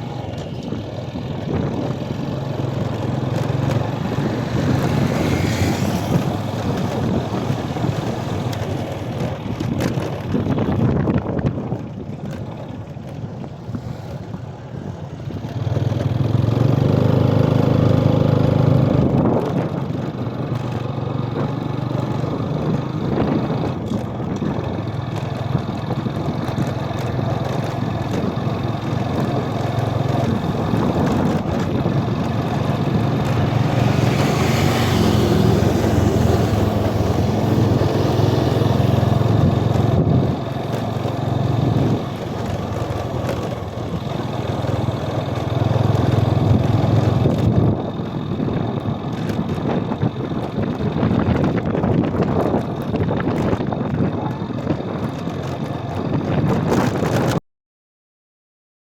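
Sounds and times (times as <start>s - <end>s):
motorbike engines revving: 0.0s - 57.4s.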